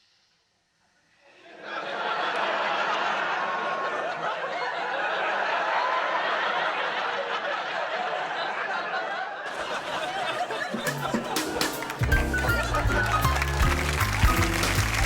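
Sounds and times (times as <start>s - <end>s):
studio audience laughing: 1.4s - 15.0s.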